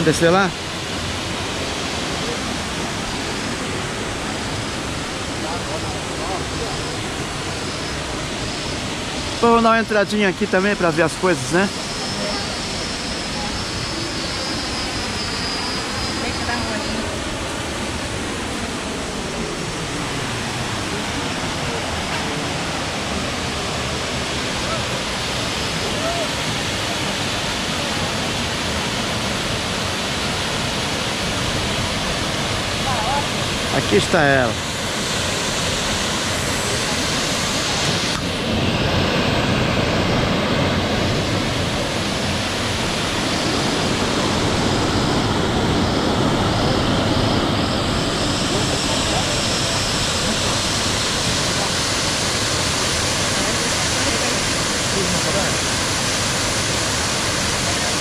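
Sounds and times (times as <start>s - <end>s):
waterfall rushing over rocks: 0.0s - 58.0s.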